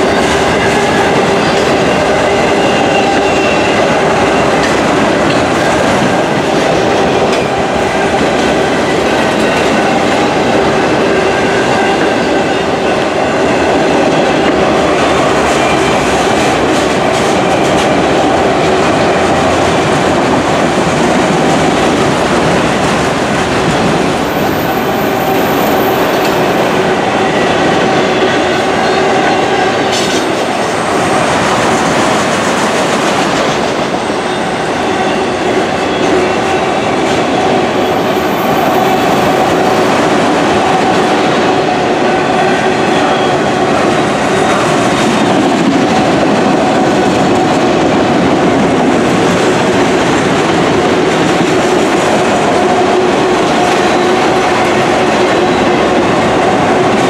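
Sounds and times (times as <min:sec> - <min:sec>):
clickety-clack over rail joints: 0:00.0 - 0:41.8, 0:42.8 - 0:57.0
steel wheels rumbling on rail: 0:00.0 - 0:57.0.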